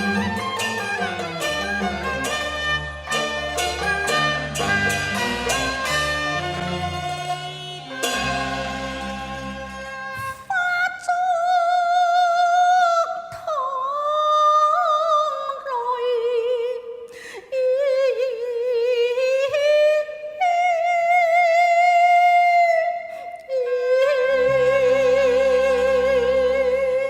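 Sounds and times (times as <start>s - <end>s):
opera singing with vibrato: 0.0s - 27.0s.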